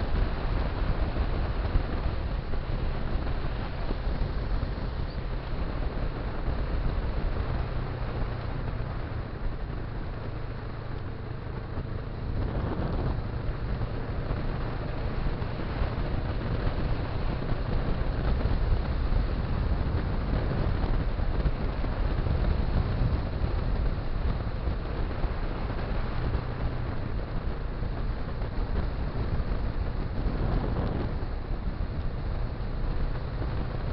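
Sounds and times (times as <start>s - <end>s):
motorcycle engine drone: 0.0s - 33.9s
wind and road noise: 0.0s - 33.9s.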